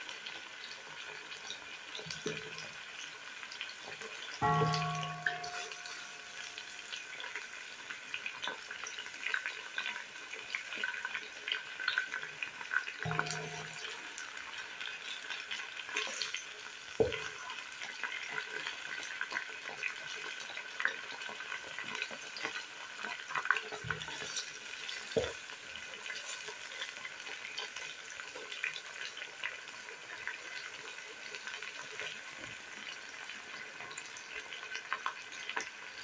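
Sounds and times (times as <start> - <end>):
chicken sizzling in frying oil: 0.0 - 36.0.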